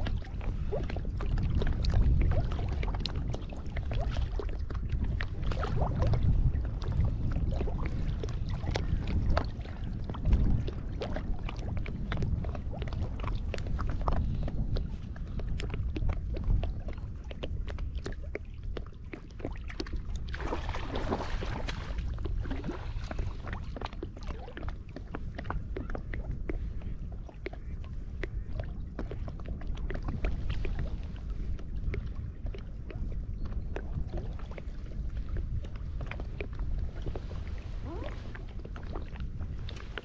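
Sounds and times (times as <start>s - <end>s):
steady low rumble: 0.0s - 40.0s
water lapping and splashing: 0.0s - 40.0s.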